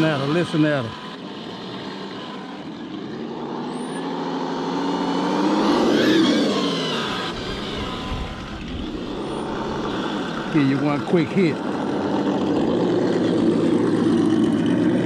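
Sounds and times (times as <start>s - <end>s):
toy car engine growl: 0.0s - 15.0s.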